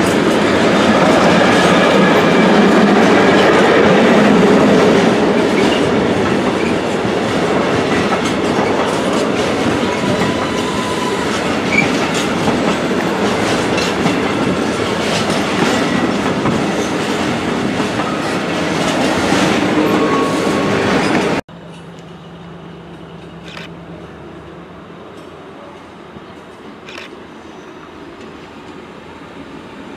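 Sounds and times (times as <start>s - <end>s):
freight train rumbling past: 0.0s - 29.9s.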